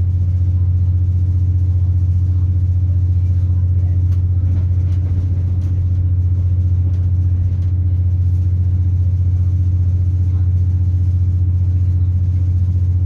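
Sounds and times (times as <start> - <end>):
train drone from inside carriage: 0.0 - 13.0.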